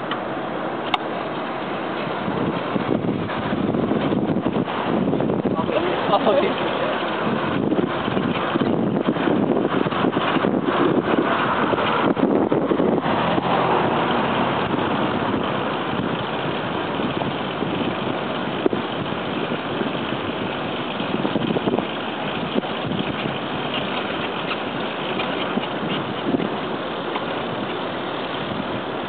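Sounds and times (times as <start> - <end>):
bicycle road noise: 0.0 - 29.0
wind rush on microphone: 0.0 - 29.0.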